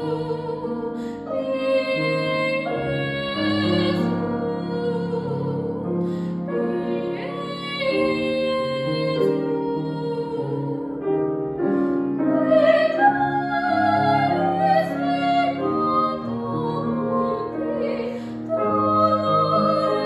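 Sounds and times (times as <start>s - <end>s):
women singing a duet: 0.0s - 11.2s, 12.1s - 20.0s
grand piano accompaniment: 0.0s - 20.0s.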